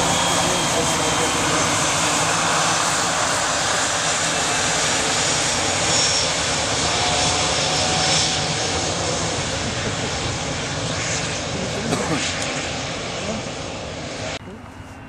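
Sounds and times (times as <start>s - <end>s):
high engine whine: 0.0s - 15.0s
jet engines running at taxi power: 0.0s - 15.0s.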